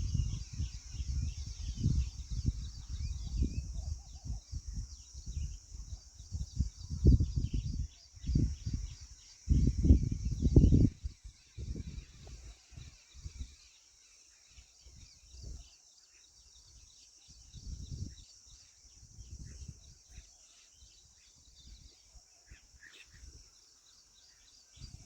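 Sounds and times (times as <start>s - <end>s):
bird chirps: 0.0s - 25.0s
insects droning: 0.0s - 25.0s.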